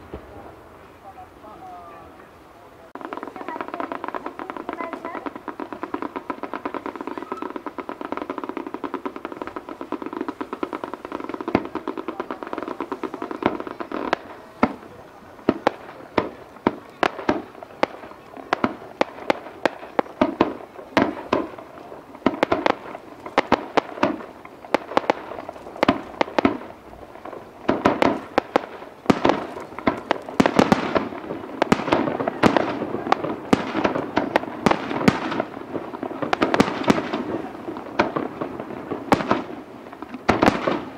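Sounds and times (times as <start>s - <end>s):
fireworks bangs with crackle: 0.0s - 40.9s.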